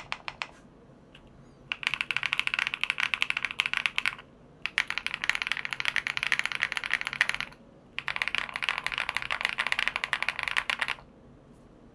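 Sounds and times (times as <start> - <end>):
fast mechanical keyboard typing: 0.0 - 0.5, 1.7 - 11.1.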